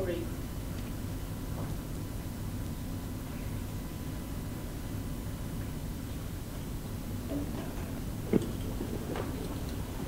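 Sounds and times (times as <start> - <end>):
low room noise: 0.0 - 10.0.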